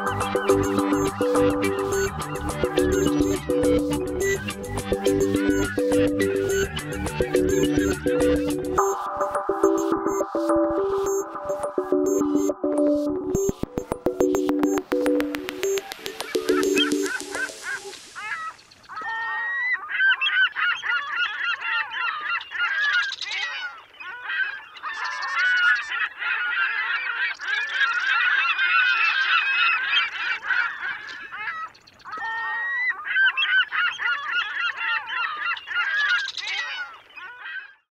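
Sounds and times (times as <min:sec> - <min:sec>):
flock of birds calling: 0:00.0 - 0:12.6, 0:15.7 - 0:37.9.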